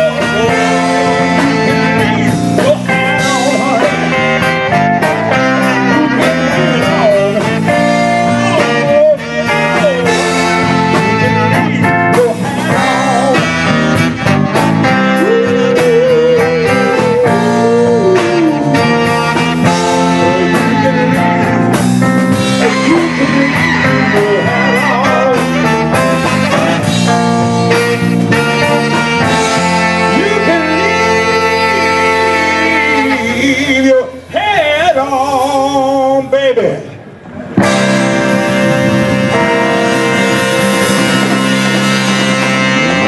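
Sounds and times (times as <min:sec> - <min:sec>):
lead guitar bending notes: 0:00.0 - 0:34.3, 0:37.2 - 0:43.0
rock band playing: 0:00.0 - 0:35.8, 0:37.1 - 0:43.0.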